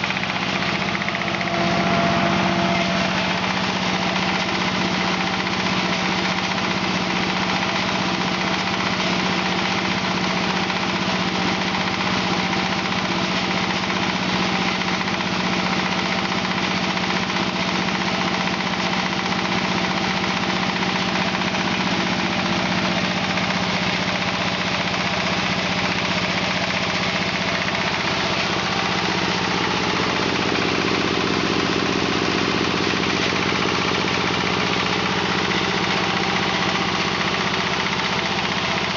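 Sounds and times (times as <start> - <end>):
diesel engine driving hammer mill: 0.0 - 38.9.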